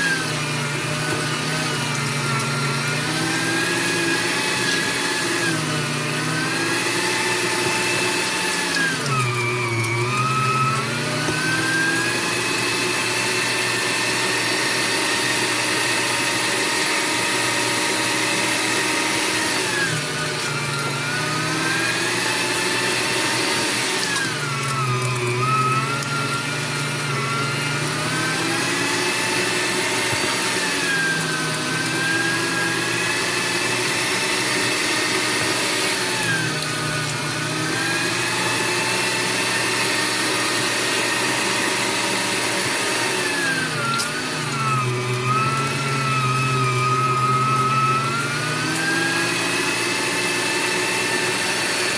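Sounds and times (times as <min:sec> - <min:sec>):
electric meat grinder motor whining: 0:00.0 - 0:51.9.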